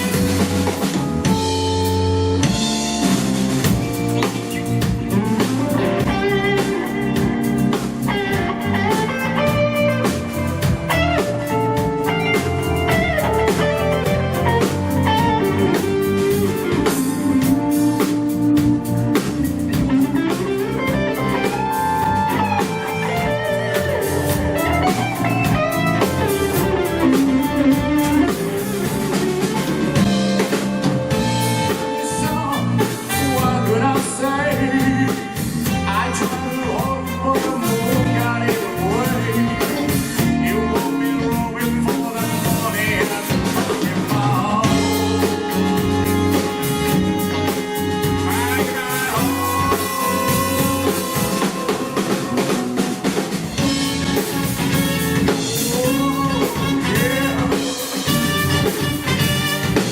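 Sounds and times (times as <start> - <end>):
lead guitar: 0.0 - 59.9
live rock band playing: 0.0 - 59.9.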